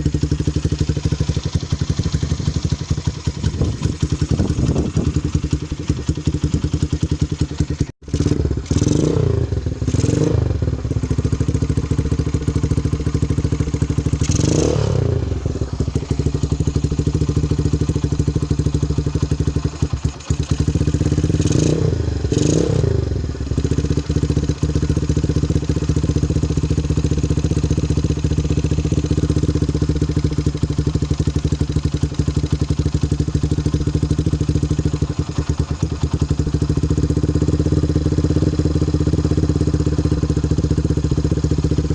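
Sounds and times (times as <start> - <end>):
motorcycle engine idling: 0.0 - 41.9
motorcycle engine revving: 0.0 - 41.9.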